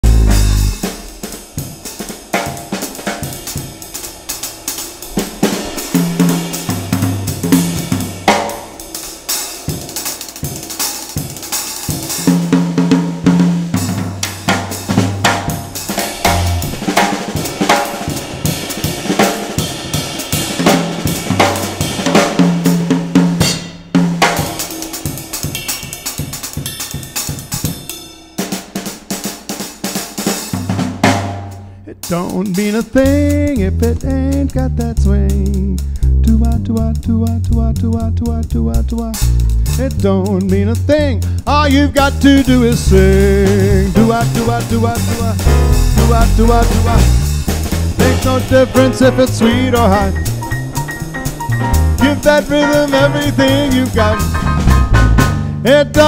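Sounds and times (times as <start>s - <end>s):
drum kit solo: 0.0s - 56.0s.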